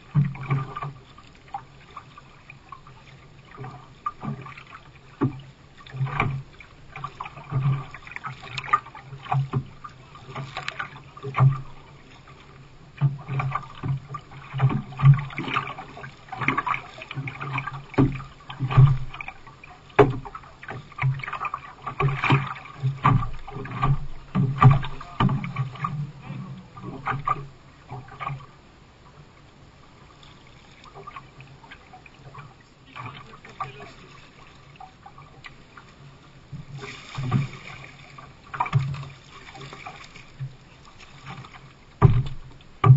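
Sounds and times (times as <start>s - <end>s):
water knocking against hull: 0.0s - 28.5s, 36.5s - 42.9s
paddle splashing water: 0.0s - 42.9s.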